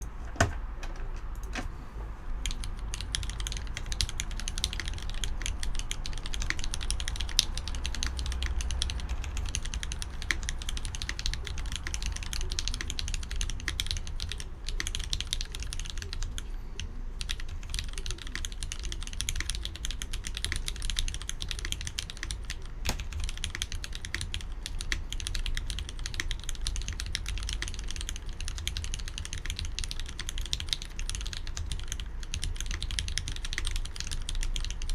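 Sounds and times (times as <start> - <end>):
mechanical keyboard typing: 2.4 - 34.9.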